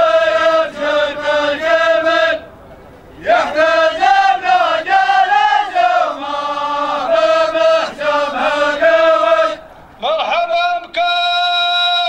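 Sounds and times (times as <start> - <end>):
men chanting: 0.0 - 2.5, 3.2 - 12.0.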